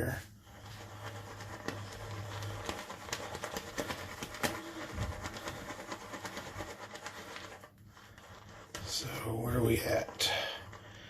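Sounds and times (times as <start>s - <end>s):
shaving brush swirling lather: 0.0s - 11.0s.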